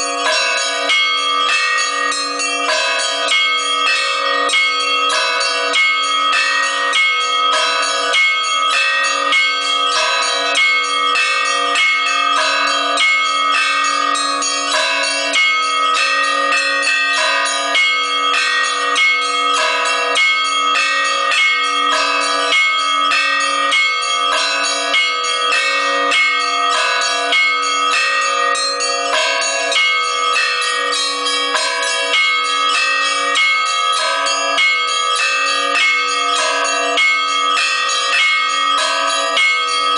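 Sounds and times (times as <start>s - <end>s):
small church bells pealing: 0.0s - 39.9s.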